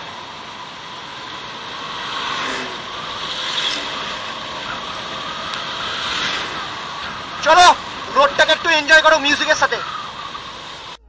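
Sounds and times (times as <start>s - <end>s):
motorcycle wind and road noise: 0.0s - 11.0s.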